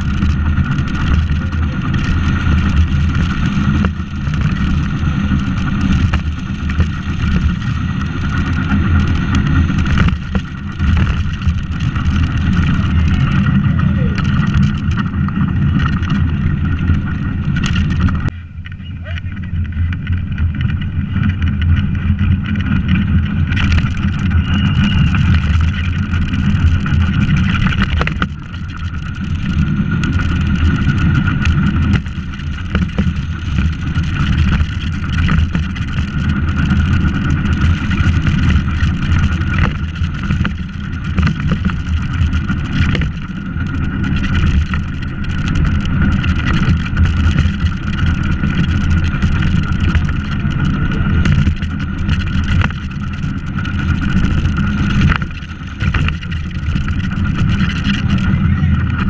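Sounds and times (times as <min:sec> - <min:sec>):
cart knocking over bumps: 0:00.0 - 0:18.3, 0:19.6 - 0:58.3
wheels rumbling on asphalt: 0:00.0 - 0:59.0.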